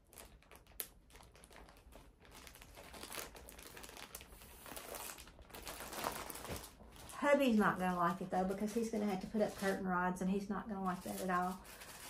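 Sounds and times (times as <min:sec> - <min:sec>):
plastic bag crinkling: 0:00.0 - 0:10.1, 0:10.8 - 0:12.0.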